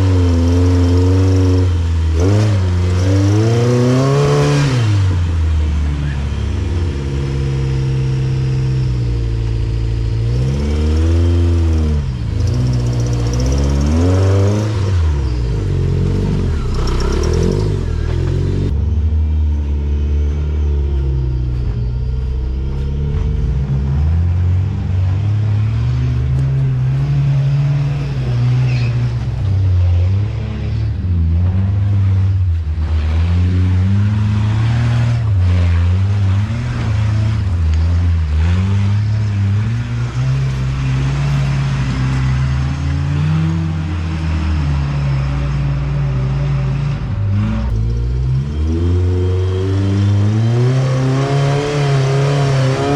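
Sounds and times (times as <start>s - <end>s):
vehicle engine revving: 0.0s - 52.9s.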